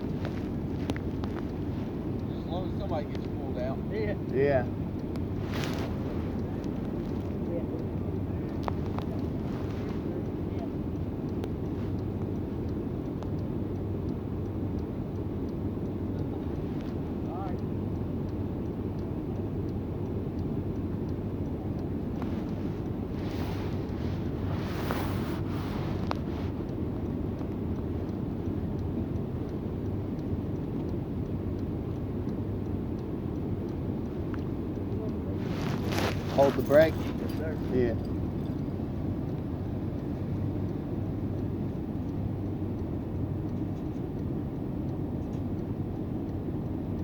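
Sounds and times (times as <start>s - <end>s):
faint ticks: 0.0s - 47.0s
vehicle engine idling: 0.0s - 47.0s.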